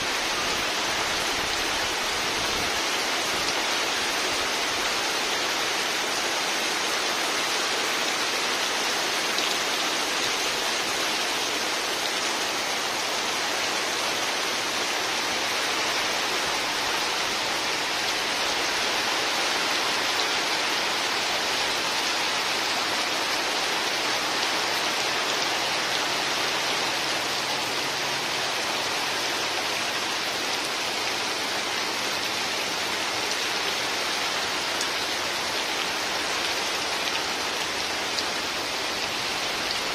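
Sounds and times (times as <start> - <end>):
heavy rain on water and boats: 0.0 - 39.9.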